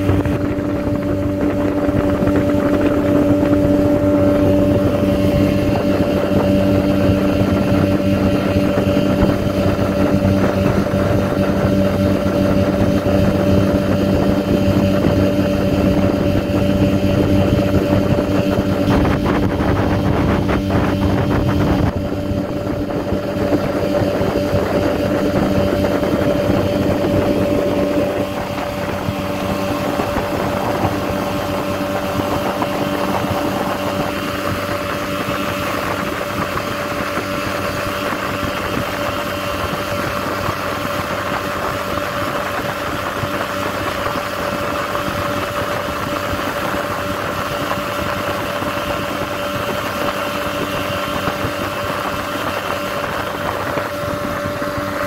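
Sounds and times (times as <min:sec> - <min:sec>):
boat engine humming: 0:00.0 - 0:55.0.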